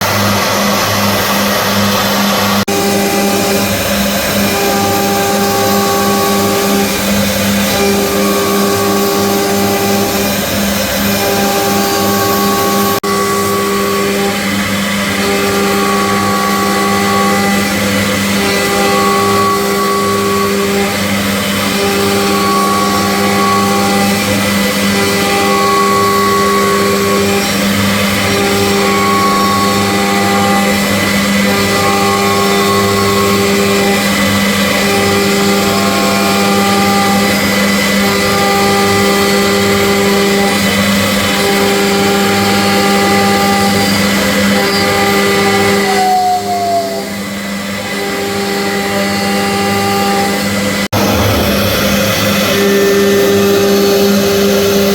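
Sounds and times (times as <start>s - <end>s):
high motor tones: 0.0s - 54.9s
machine hum: 0.0s - 54.9s.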